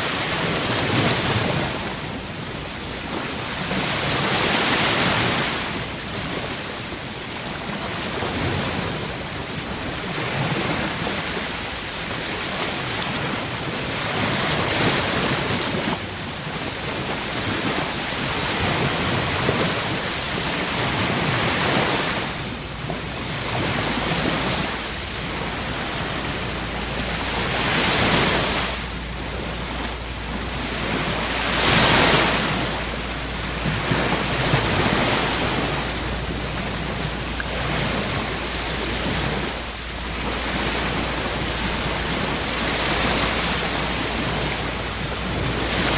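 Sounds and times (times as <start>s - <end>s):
sea waves breaking: 0.0s - 45.9s.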